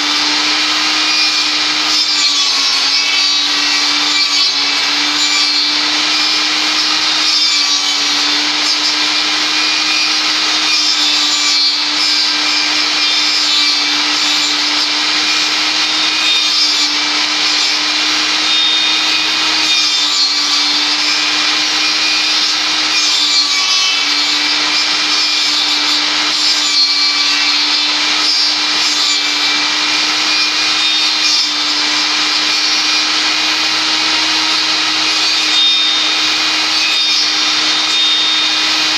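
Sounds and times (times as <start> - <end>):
saw blade cutting wood: 0.0 - 38.9
table saw motor hum: 0.0 - 38.9.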